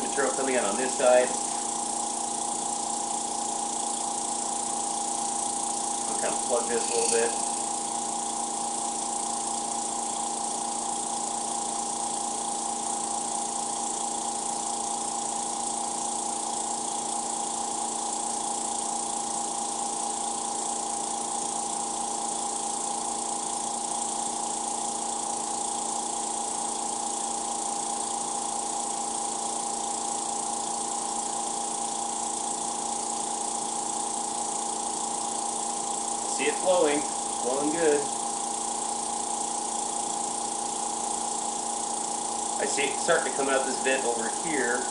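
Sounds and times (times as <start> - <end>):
air compressor running: 0.0 - 44.9.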